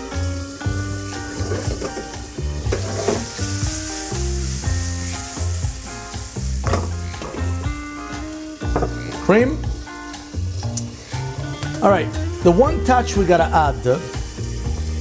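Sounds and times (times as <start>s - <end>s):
background music with bass: 0.0s - 15.0s
sauce sizzling in a skillet: 0.0s - 15.0s.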